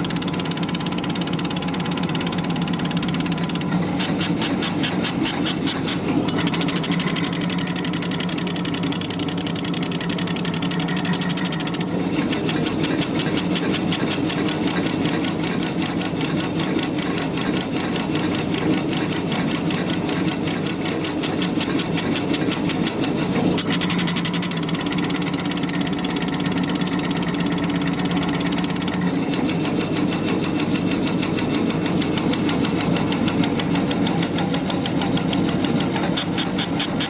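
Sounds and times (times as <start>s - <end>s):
laser engraver gantry ticking: 0.0s - 37.0s
steady machine hum: 0.0s - 37.0s.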